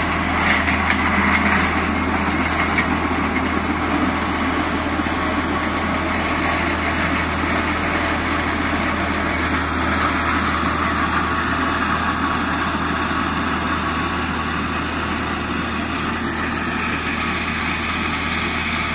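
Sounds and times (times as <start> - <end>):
flail mulcher: 0.0 - 18.9
tractor diesel engine running: 0.0 - 18.9.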